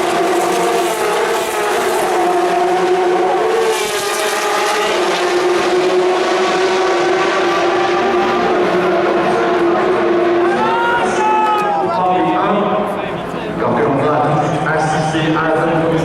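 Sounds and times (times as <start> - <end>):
racing car engines passing: 0.0 - 16.0.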